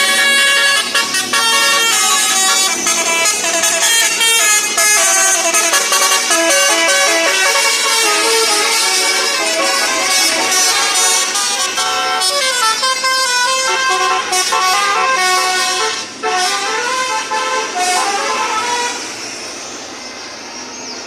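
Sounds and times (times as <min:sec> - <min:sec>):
musical vehicle horn tune: 0:00.0 - 0:19.1.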